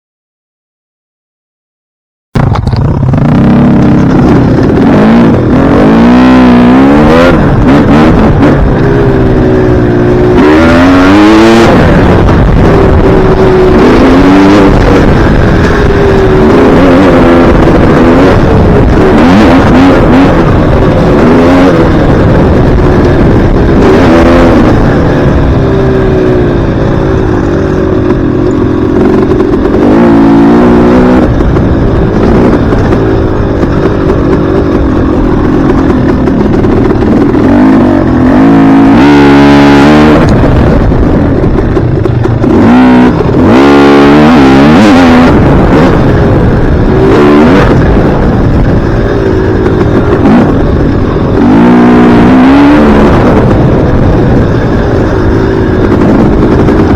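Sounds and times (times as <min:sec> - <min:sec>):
dirt bike engine revving: 0:02.4 - 0:56.9.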